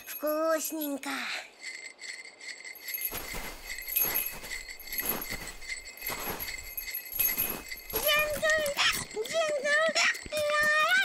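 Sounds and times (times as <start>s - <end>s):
jingle bell jingling: 0.0s - 11.0s
soft rhythmic strokes: 0.0s - 11.0s.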